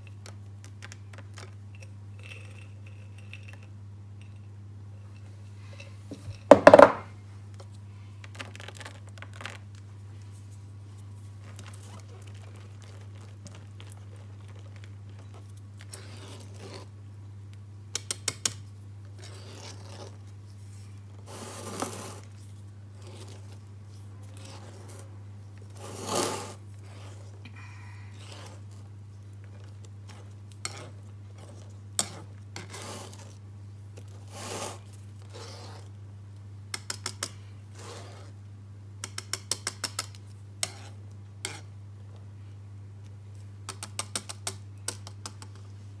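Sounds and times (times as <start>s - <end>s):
steady low hum: 0.0s - 43.7s.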